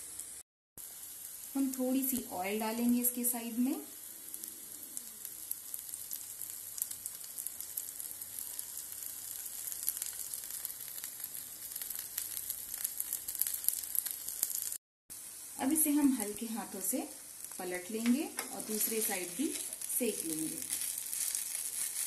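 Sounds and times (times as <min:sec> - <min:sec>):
batter frying in sizzling oil: 0:00.0 - 0:22.0.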